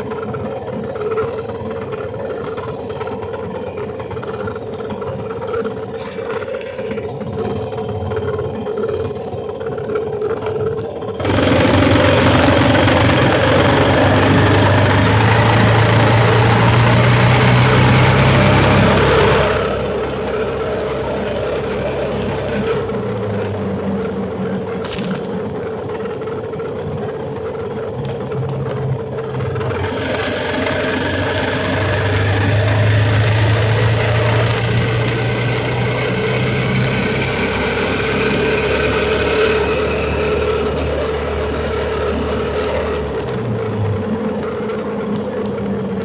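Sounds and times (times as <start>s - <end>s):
small engine running with rattle: 0.0s - 46.0s.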